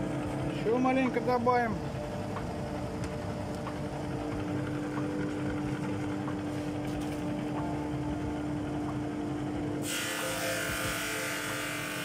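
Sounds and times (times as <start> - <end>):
drum sander humming: 0.0 - 12.0.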